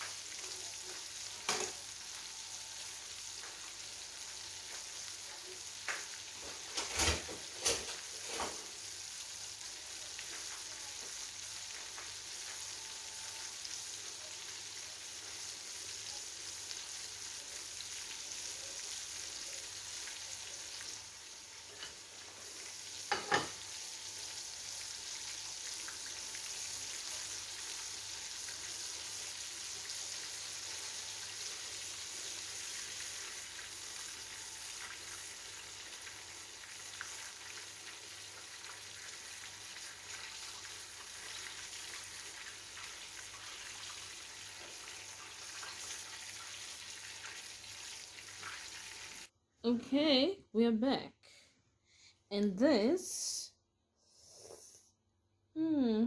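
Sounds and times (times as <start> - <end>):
chicken frying in hot oil: 0.0 - 49.3.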